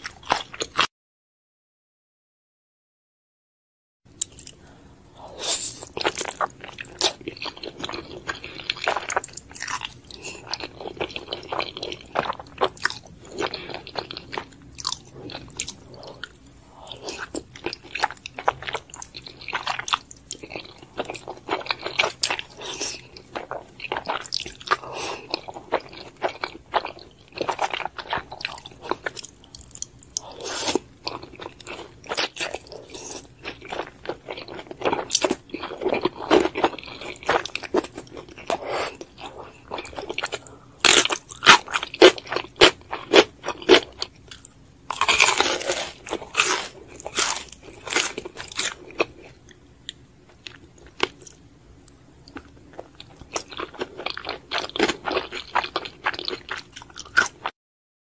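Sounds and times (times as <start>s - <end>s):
slurping and chewing noodles: 5.3s - 49.5s, 52.3s - 57.5s.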